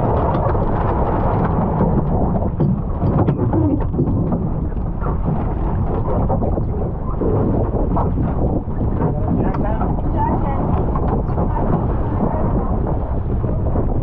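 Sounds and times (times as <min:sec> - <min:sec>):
water splashing against boat hull: 0:00.0 - 0:14.0
wind buffeting microphone: 0:00.0 - 0:14.0.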